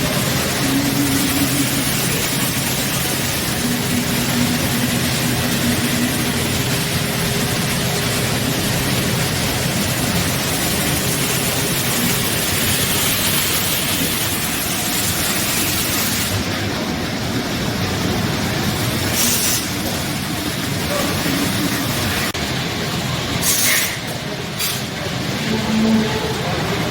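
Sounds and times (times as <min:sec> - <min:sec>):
woodworking machine rushing noise: 0:00.0 - 0:26.9.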